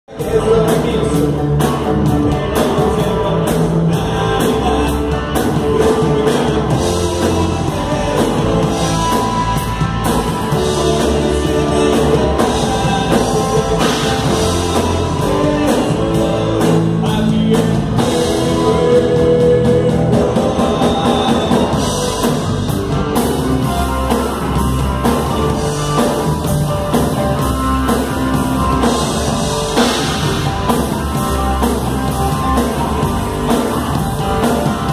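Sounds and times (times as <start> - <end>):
drum kit: 0.1 - 34.9
electric guitar: 0.1 - 34.9.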